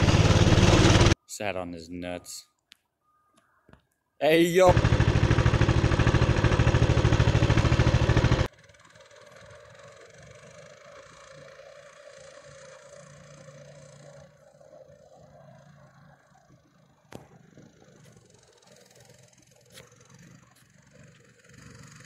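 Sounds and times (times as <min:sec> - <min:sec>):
distant engine running: 0:00.0 - 0:01.2, 0:04.6 - 0:22.0
small petrol engine running: 0:00.0 - 0:01.2, 0:04.5 - 0:22.0.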